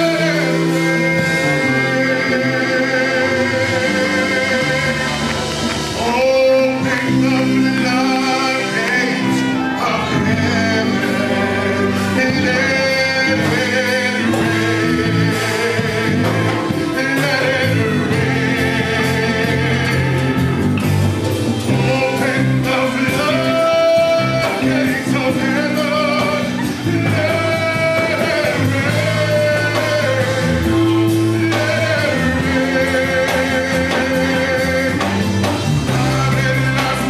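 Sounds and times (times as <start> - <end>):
voices singing: 0.0 - 37.0
worship band playing: 0.0 - 37.0.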